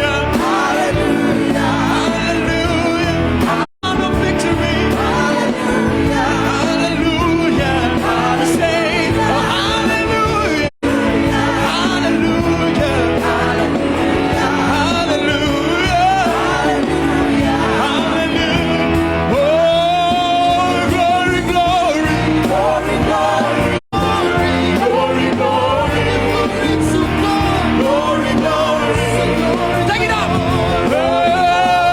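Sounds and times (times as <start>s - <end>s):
choir singing gospel with band: 0.0s - 31.9s
lead singer holding notes: 0.0s - 31.9s.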